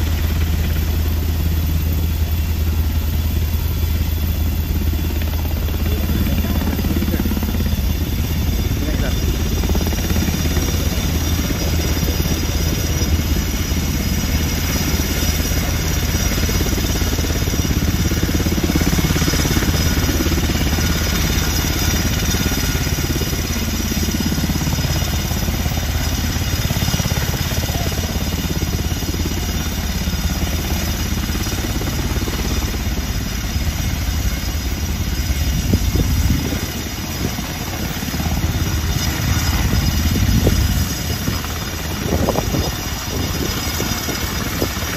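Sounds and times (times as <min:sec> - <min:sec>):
helicopter rotor: 0:00.0 - 0:44.9
high turbine whine: 0:00.0 - 0:44.9.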